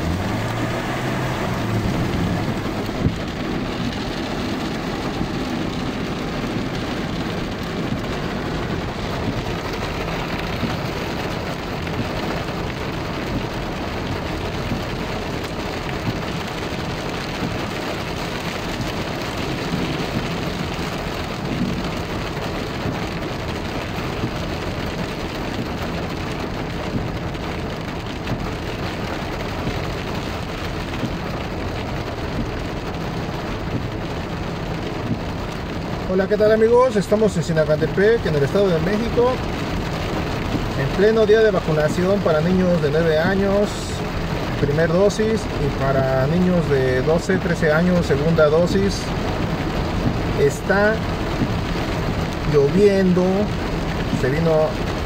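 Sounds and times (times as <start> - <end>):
heavy rain on car roof: 0.0 - 55.0.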